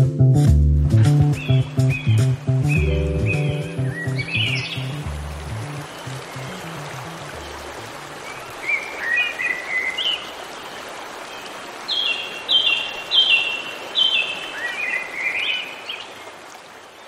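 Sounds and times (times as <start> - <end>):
running water: 1.0 - 17.0
birdsong chirps: 1.2 - 17.0.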